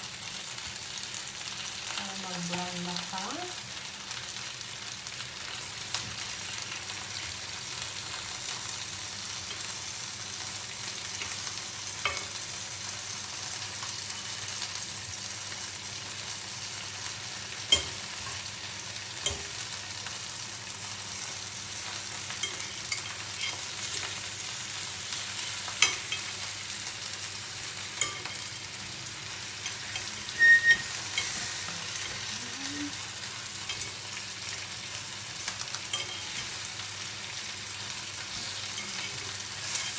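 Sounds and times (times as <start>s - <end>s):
chicken sizzling in a wok: 0.0s - 39.9s.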